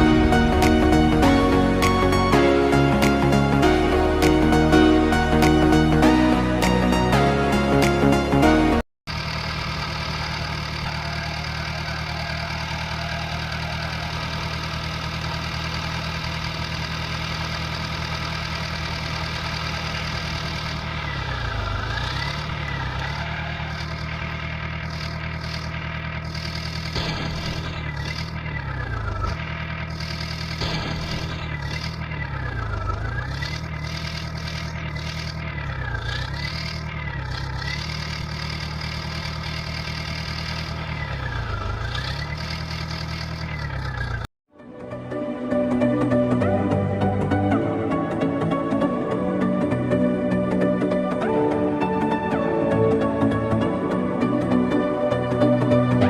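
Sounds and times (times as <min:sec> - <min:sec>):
tractor engine idling: 0:00.0 - 0:07.2, 0:09.1 - 0:56.0.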